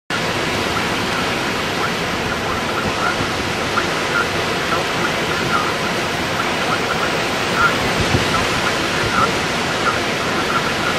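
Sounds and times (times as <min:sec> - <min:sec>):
strong wind rushing: 0:00.1 - 0:10.9.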